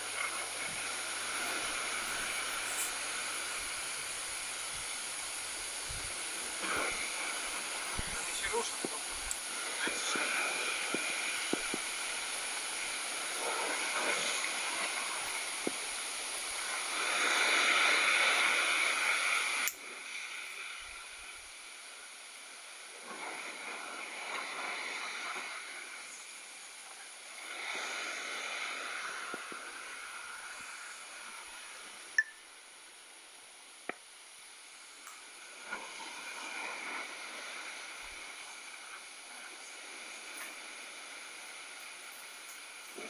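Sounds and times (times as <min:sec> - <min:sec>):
sea surf washing against rocks: 0:00.0 - 0:32.1, 0:34.9 - 0:43.0.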